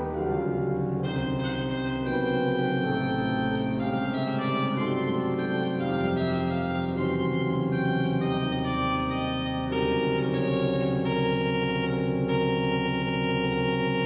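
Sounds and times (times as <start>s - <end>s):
pipe organ sustained chords: 0.0s - 14.0s.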